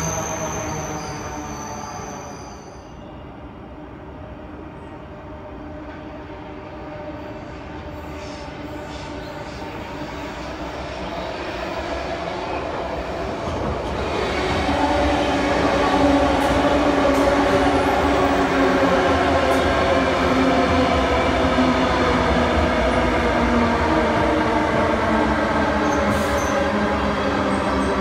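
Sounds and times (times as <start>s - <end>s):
electric train passing on rails: 0.0s - 28.0s.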